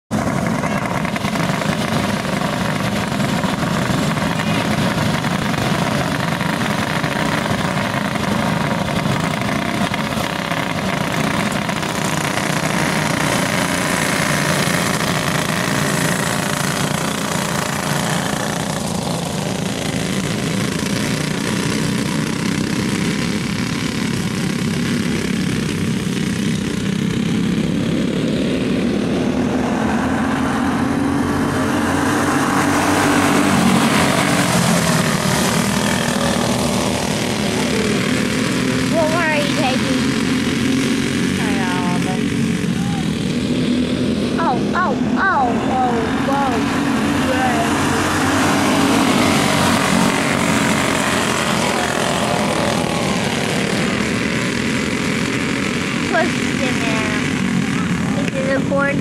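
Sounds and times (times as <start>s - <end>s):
go-kart engines racing: 0.1s - 59.0s.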